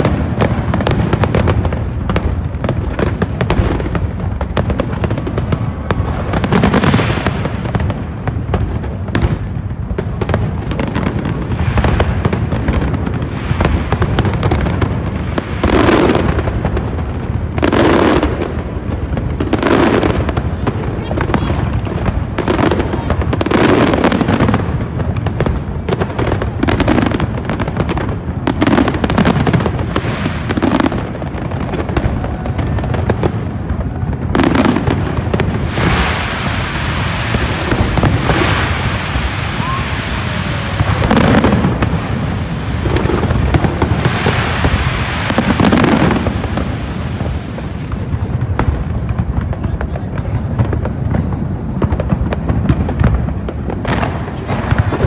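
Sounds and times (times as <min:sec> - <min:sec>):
big firework booms: 0:00.0 - 0:55.0
fireworks bangs and crackles: 0:00.0 - 0:55.0.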